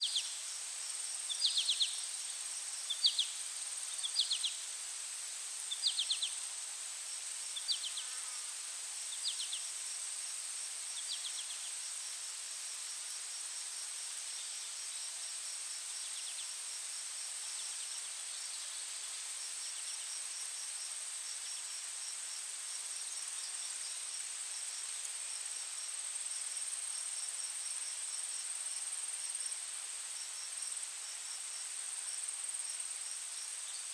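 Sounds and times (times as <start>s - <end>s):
crickets trilling: 0.0s - 33.9s
rapid ticking insect chirp: 0.0s - 33.9s.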